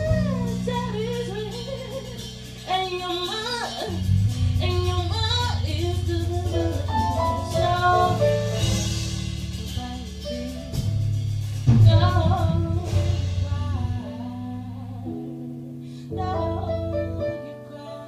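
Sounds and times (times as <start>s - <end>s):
woman singing: 0.0s - 8.9s, 9.6s - 10.9s, 11.7s - 18.0s
deep bass notes: 0.0s - 17.4s
drums: 0.0s - 17.8s.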